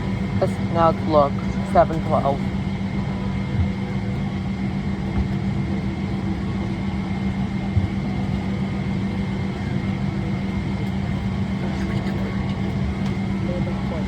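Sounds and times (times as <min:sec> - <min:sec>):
low drone: 0:00.0 - 0:14.0.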